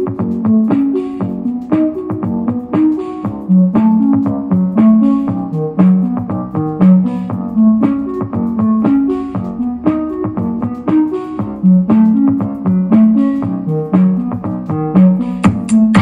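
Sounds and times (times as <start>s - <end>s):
keyboard music with beat: 0.0s - 16.0s.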